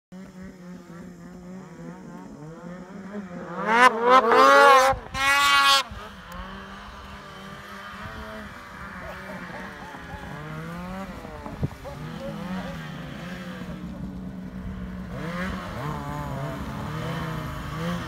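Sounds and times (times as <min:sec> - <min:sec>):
snowmobile engines revving: 0:00.2 - 0:18.0.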